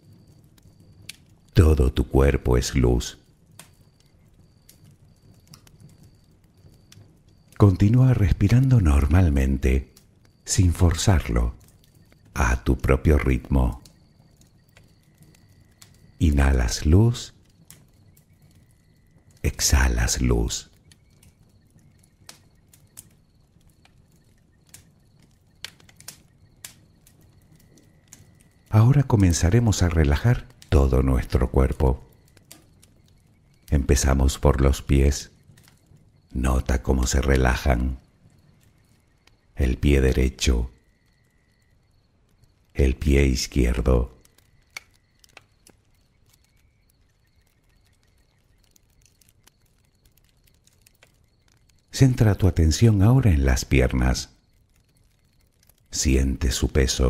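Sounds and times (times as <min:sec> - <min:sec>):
campfire crackling: 0:00.0 - 0:57.0
low rumble of fire: 0:00.0 - 0:57.0.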